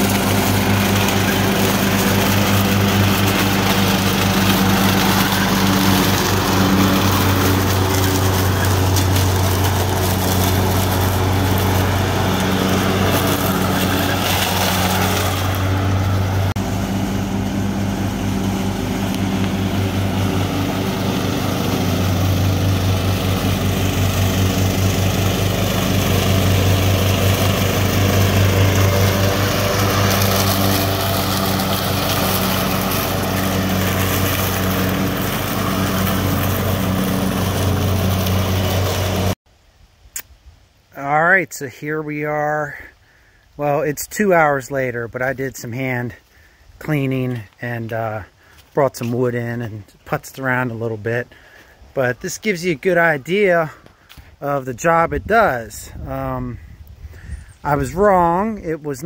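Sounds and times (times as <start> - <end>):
riding lawn mower running: 0.0 - 39.4, 41.0 - 59.0.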